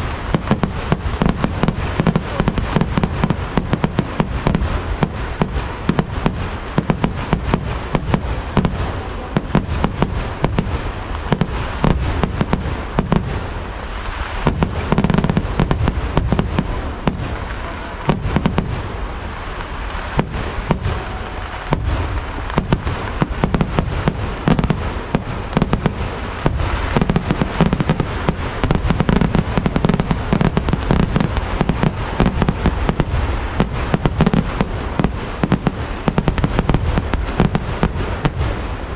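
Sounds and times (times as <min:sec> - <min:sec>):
fireworks barrage crackling: 0:00.0 - 0:38.9.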